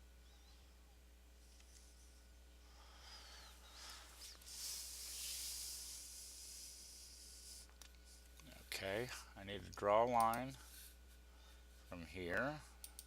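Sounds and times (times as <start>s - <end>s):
low electrical hum: 0.0s - 13.0s
steady hiss: 1.4s - 12.7s.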